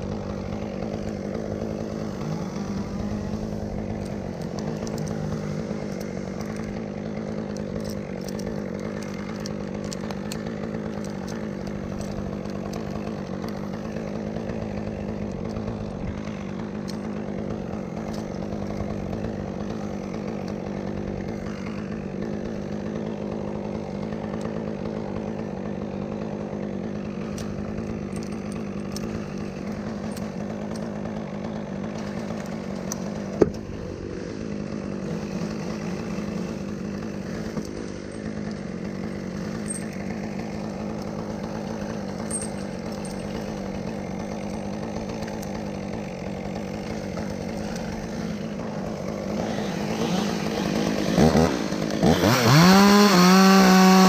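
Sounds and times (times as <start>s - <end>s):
chainsaw engine running: 0.0s - 54.0s.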